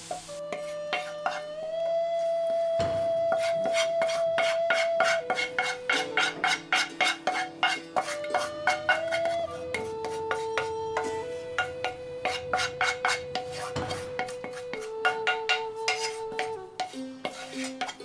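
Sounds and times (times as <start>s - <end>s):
background music with quick beat: 0.0s - 18.0s
wooden spoon scraping a pan: 0.2s - 1.6s, 3.1s - 18.0s.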